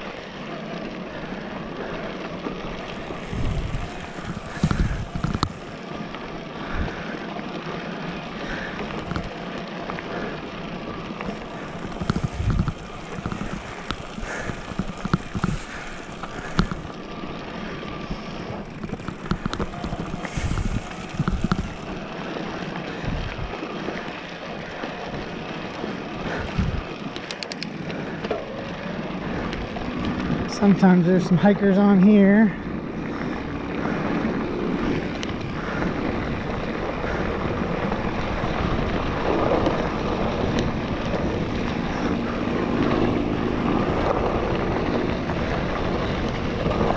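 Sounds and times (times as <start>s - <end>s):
bike rattling and knocking: 0.0s - 46.9s
tyres rolling on loose dirt: 0.0s - 46.9s
wind buffeting microphone: 1.1s - 7.2s, 11.1s - 28.3s, 29.1s - 46.9s.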